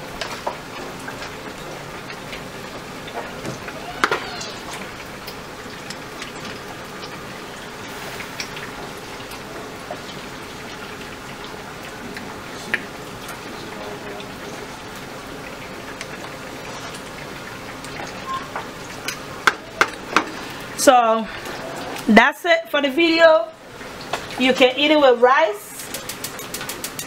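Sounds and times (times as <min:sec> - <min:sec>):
stew simmering in a pot: 0:00.0 - 0:27.0.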